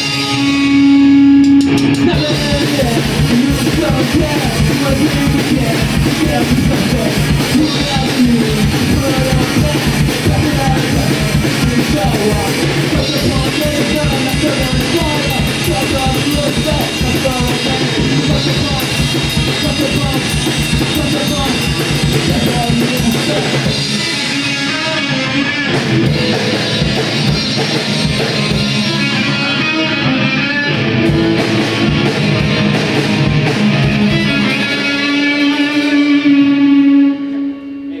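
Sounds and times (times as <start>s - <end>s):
drum kit: 0.0s - 37.2s
electric guitar: 0.0s - 38.0s.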